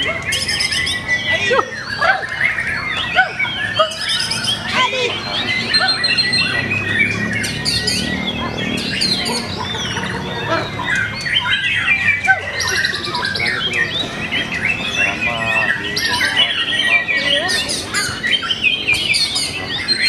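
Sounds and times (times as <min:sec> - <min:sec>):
songbird whistles and trills: 0:00.0 - 0:20.0.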